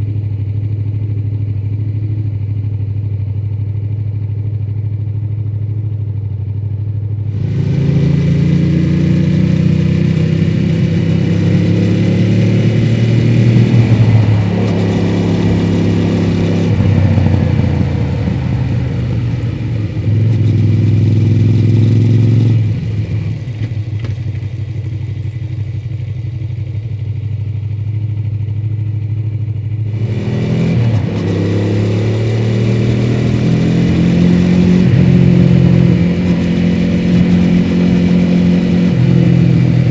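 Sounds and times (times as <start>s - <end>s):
motorcycle engine accelerating: 6.5s - 39.9s.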